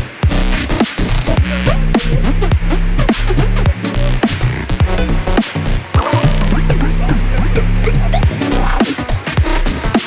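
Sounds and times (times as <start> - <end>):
electronic dance music: 1.4 - 10.0.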